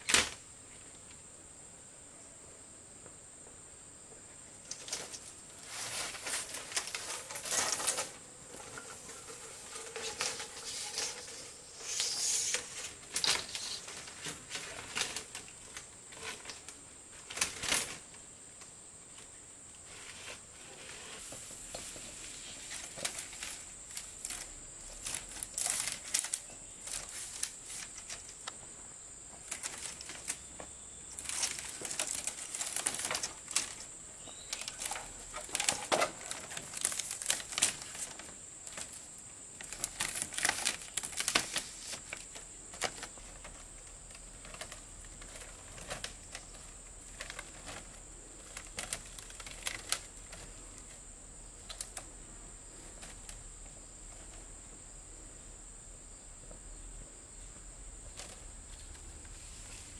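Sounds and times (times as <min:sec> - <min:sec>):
bamboo strips clattering and knocking: 0:00.0 - 0:01.2, 0:04.5 - 0:54.8, 0:57.4 - 0:59.9
high insect drone: 0:00.0 - 0:59.9.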